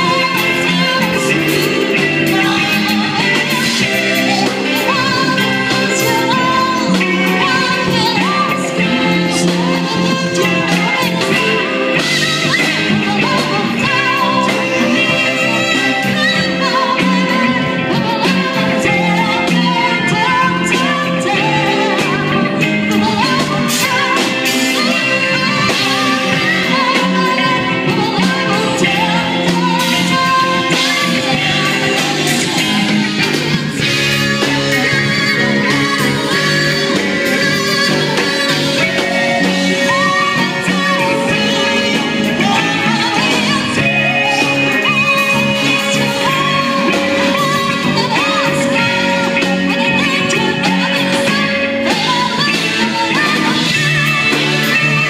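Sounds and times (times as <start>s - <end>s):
live band playing: 0.0s - 55.0s
person singing: 0.0s - 55.0s.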